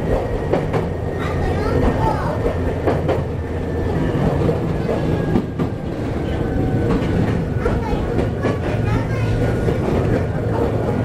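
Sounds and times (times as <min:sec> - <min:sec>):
electric train running noise: 0:00.0 - 0:11.0.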